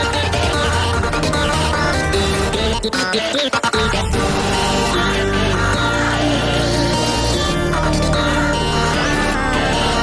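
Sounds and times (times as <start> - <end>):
electronic music with sustained chords: 0.0 - 10.0.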